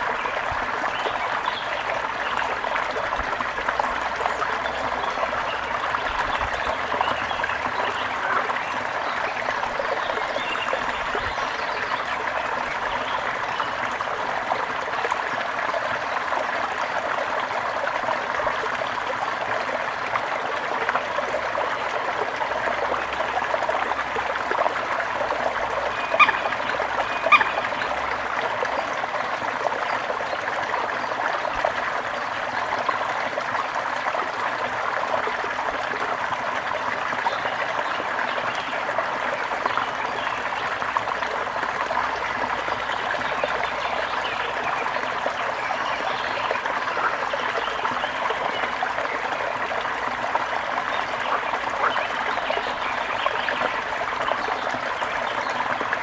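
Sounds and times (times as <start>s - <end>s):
brook water babbling over stones: 0.0s - 56.0s.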